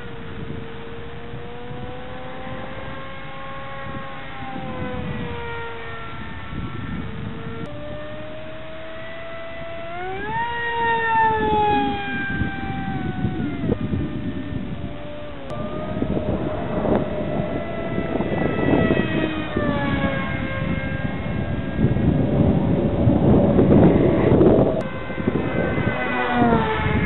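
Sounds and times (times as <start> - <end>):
model aircraft motor whine: 0.0 - 27.0.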